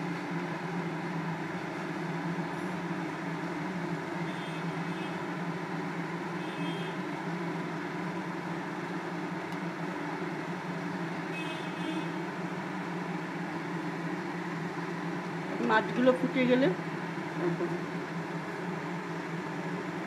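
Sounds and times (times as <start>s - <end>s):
stove flame rushing hum: 0.0s - 20.0s.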